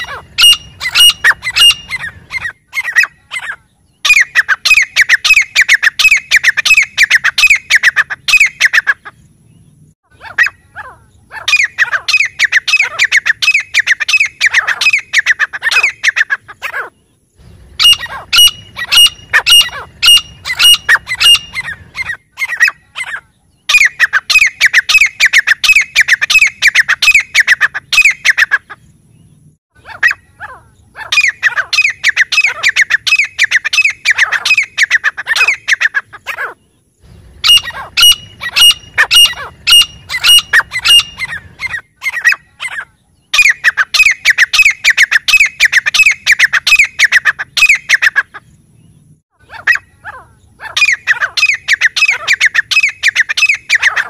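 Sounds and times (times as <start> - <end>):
francolin calling: 0.0 - 54.0.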